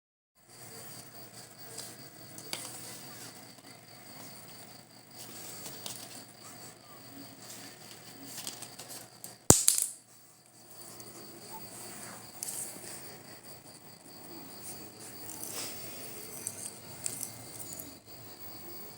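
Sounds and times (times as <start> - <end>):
insects chirping: 0.5 - 18.9.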